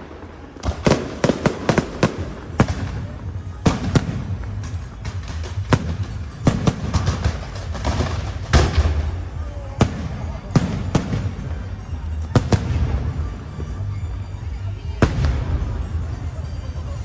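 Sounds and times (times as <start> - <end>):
fireworks bangs: 0.0 - 14.2, 14.9 - 17.0.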